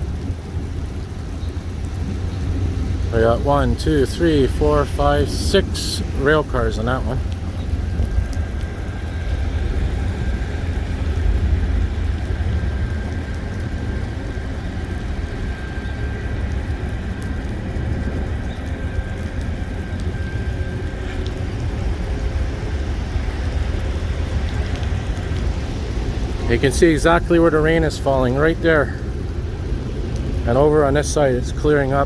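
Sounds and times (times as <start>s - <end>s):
faint high whine: 0.0s - 32.0s
low outdoor rumble: 0.0s - 32.0s.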